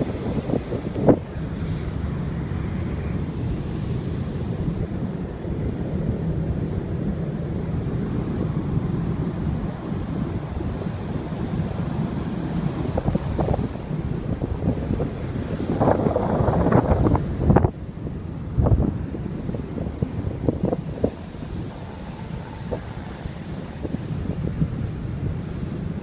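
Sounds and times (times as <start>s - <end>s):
ferry engine rumble: 0.0s - 26.0s
wind noise on microphone: 0.0s - 26.0s.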